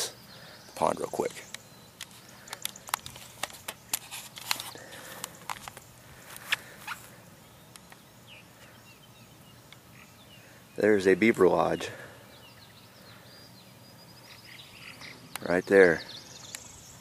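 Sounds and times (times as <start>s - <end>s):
bird chirps: 0.0s - 3.7s, 6.6s - 17.0s.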